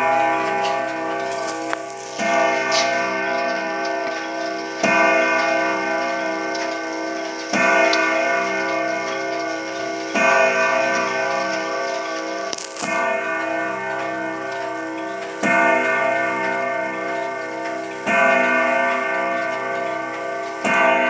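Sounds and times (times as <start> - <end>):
grandfather clock striking: 0.0 - 21.0.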